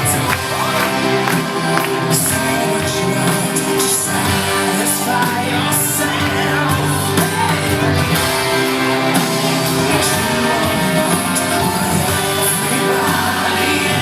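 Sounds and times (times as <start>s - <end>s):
music with singing: 0.0s - 14.0s.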